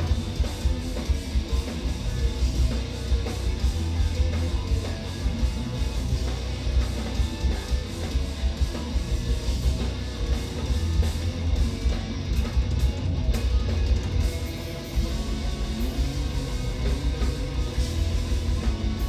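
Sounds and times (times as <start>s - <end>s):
distorted electric guitars: 0.0s - 19.0s
drum kit: 0.0s - 19.0s.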